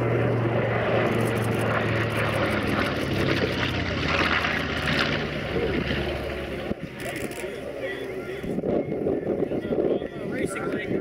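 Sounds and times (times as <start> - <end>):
propeller plane engines droning: 0.0 - 11.0.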